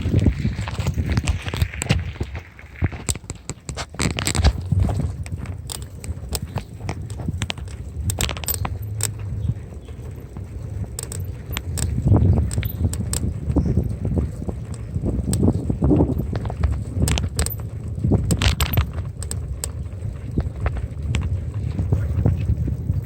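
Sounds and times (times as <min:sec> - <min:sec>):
bicycle clicks and rattles: 0:00.0 - 0:23.0
wind rumbling on microphone: 0:00.0 - 0:23.0.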